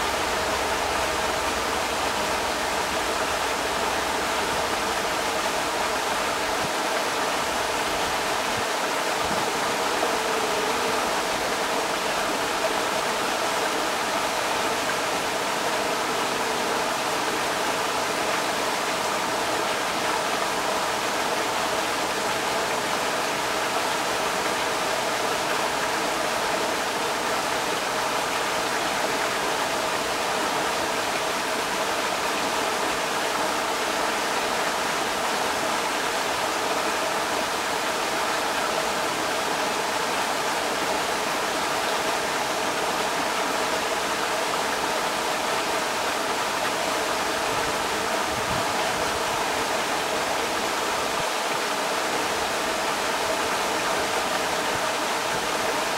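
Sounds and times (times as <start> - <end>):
water rushing over rocks: 0.0 - 55.9.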